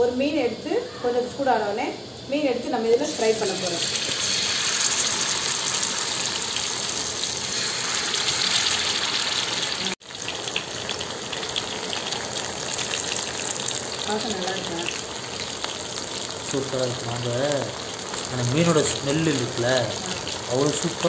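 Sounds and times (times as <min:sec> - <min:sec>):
fish sizzling in hot oil: 0:02.9 - 0:21.0.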